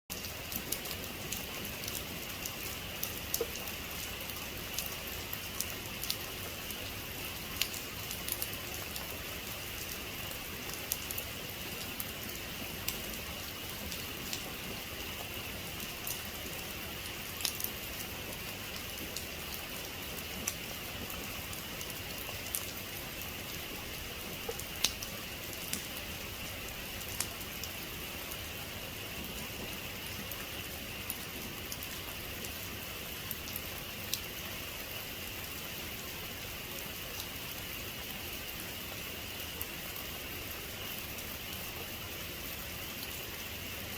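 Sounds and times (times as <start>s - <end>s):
steady rain falling: 0.1s - 43.9s.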